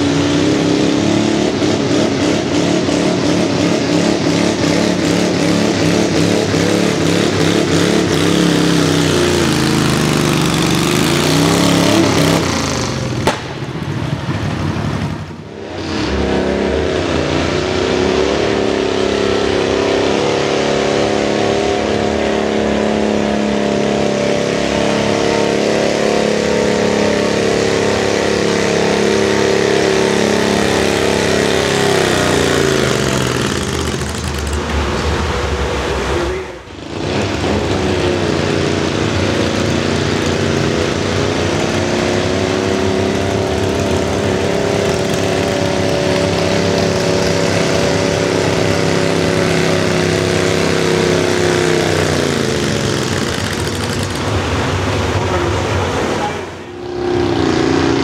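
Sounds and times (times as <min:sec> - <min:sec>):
tractor engine revving under load: 0:00.0 - 0:58.0.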